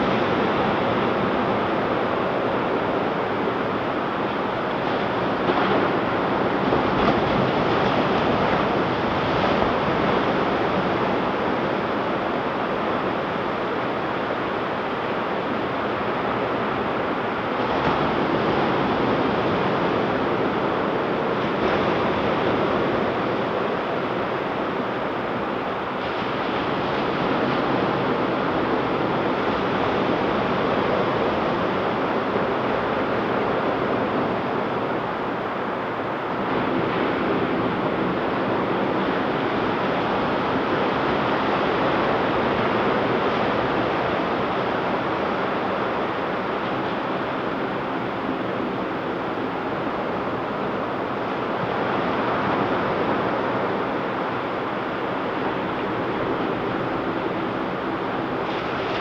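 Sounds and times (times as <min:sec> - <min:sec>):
ocean surf breaking on beach: 0:00.1 - 0:59.0.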